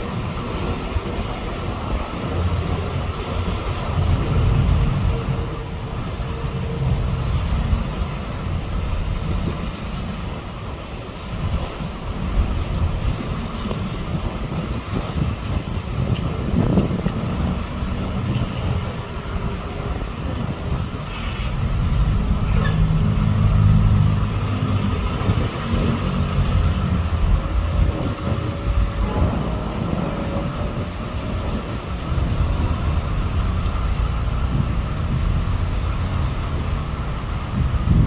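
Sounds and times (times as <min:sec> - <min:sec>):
low engine hum: 0:00.0 - 0:38.0
low rumble of motor traffic: 0:00.0 - 0:38.0.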